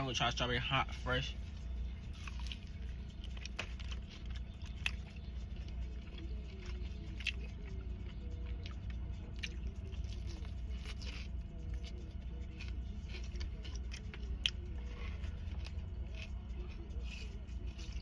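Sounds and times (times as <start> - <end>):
faint background music: 0.0 - 18.0
person chewing food: 1.4 - 18.0.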